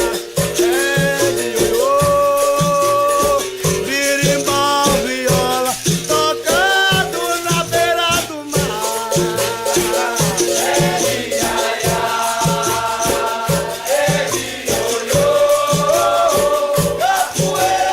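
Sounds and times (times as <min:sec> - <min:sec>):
rattling percussion: 0:00.0 - 0:17.9
steady drum beat: 0:00.0 - 0:17.9
voices singing: 0:00.0 - 0:17.9.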